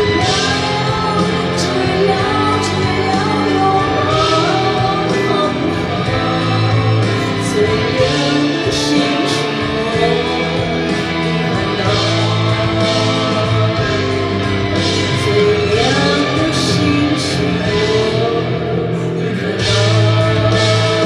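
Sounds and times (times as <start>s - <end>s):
woman singing into a microphone: 0.0s - 13.9s, 14.9s - 21.0s
instrumental accompaniment: 0.0s - 21.0s.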